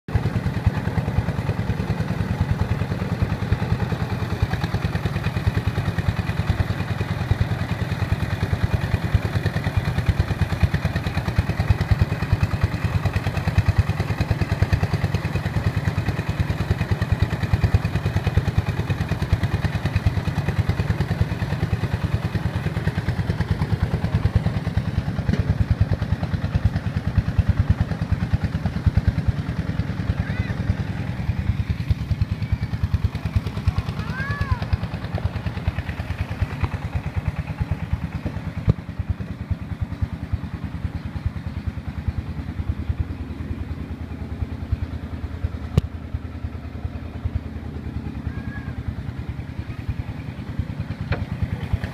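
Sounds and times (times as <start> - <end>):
threshing machine engine chugging: 0.1 - 51.9.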